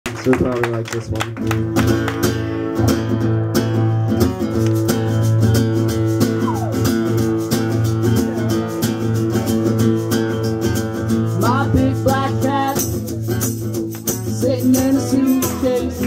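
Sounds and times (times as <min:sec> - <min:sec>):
country band music: 0:00.1 - 0:16.0
acoustic guitar strumming: 0:01.4 - 0:16.0.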